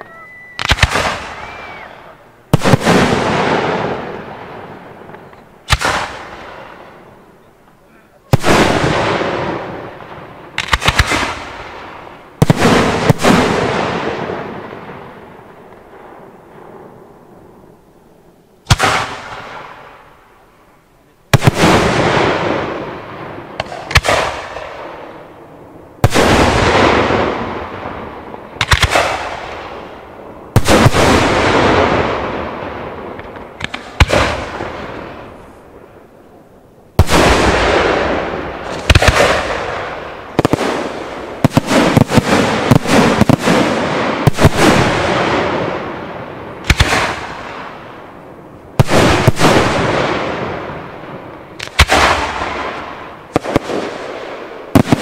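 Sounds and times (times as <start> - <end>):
firework bursts with rolling echo: 0.0 - 7.5, 8.3 - 20.6, 21.2 - 55.0.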